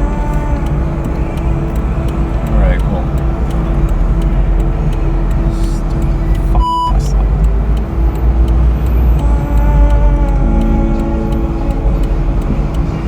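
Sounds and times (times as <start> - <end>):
car engine running: 0.0 - 13.0
road rumble in cabin: 0.0 - 13.0.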